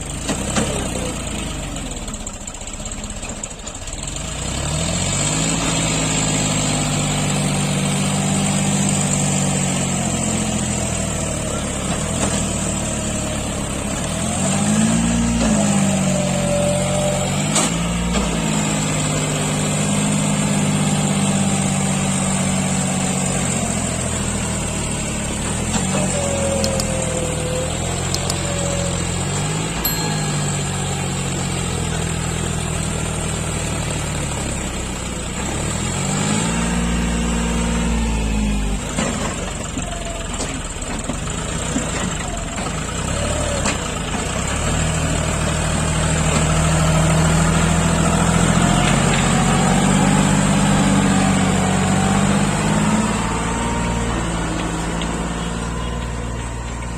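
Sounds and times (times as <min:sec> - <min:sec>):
tractor diesel engine revving: 0:00.0 - 0:56.9.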